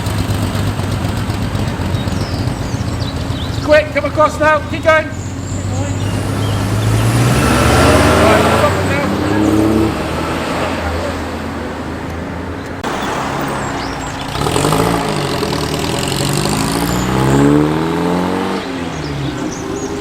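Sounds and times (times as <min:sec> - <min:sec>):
car engine accelerating: 0:00.0 - 0:20.0
car passing: 0:00.0 - 0:20.0.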